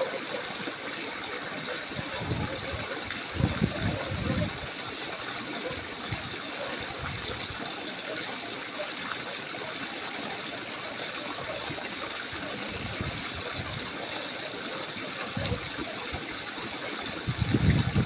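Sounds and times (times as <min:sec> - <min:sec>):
running water rushing: 0:00.0 - 0:18.0.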